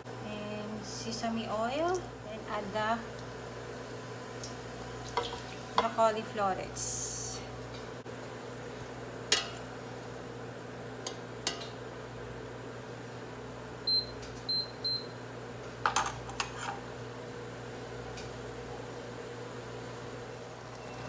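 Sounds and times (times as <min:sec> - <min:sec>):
cooktop humming: 0:00.0 - 0:21.0.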